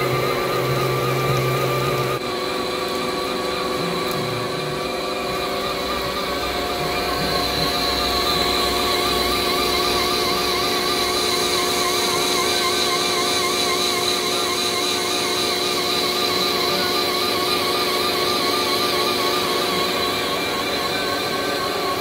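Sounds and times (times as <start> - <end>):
lathe cutting metal: 0.0 - 22.0.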